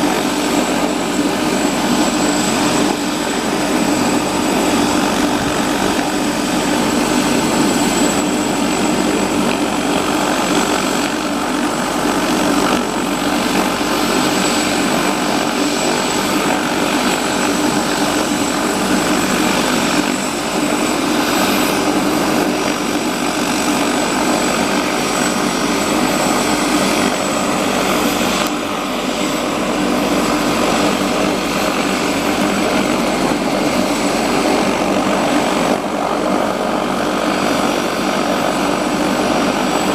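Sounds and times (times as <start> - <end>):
helicopter turbine engine whine: 0.0 - 39.9.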